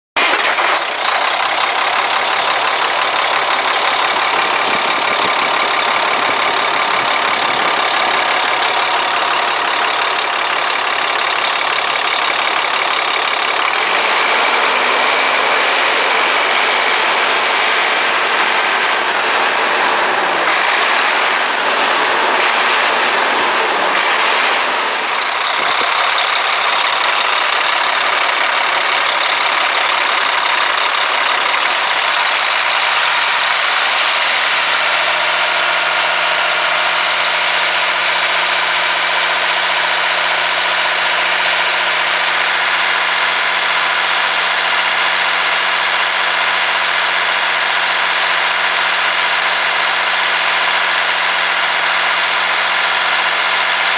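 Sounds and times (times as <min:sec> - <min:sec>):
diesel truck engine idling: 0:00.2 - 0:53.9.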